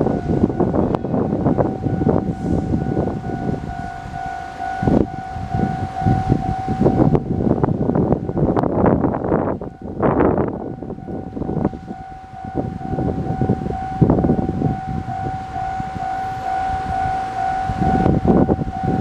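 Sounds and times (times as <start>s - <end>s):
gusty rumbling noise: 0.0s - 19.0s
steady high-pitched tone: 0.0s - 19.0s.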